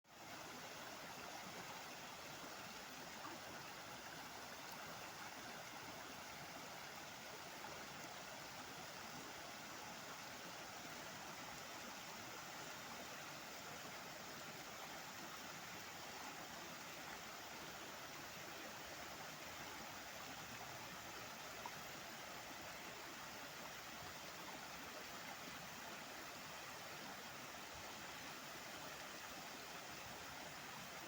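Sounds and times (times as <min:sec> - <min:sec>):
water rushing: 0:00.1 - 0:31.0.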